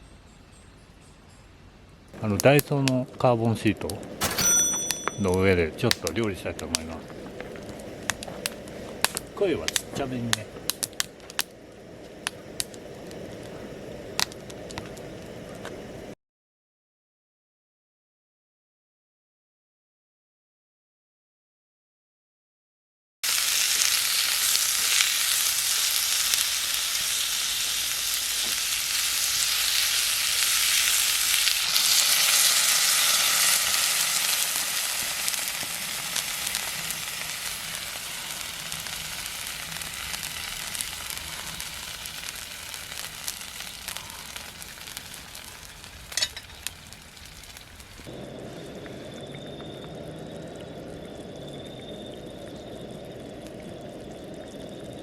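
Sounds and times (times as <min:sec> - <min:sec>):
food sizzling in a pan: 0:02.2 - 0:16.2, 0:23.2 - 0:55.0.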